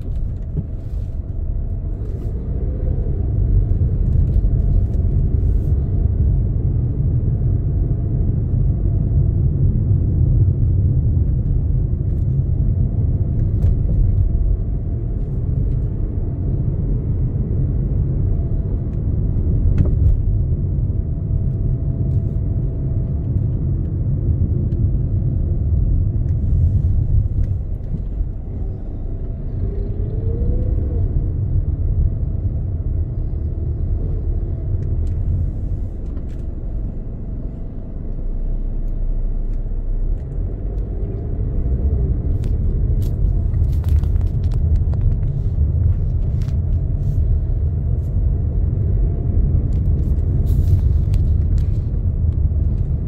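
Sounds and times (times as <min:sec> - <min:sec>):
road and engine noise in car: 0:00.0 - 0:53.0.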